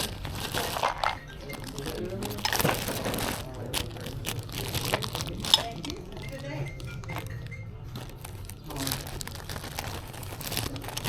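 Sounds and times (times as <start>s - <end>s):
faint voices: 0.0s - 11.0s
rustling and crinkling handling: 0.0s - 11.0s.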